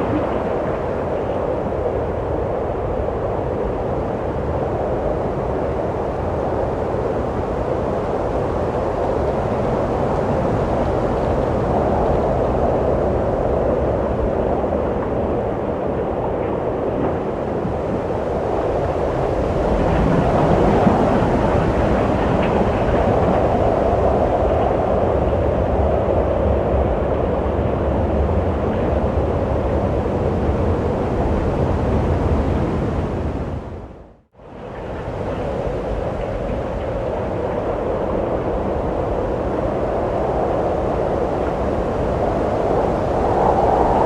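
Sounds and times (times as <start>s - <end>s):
wind blowing: 0.0s - 44.0s.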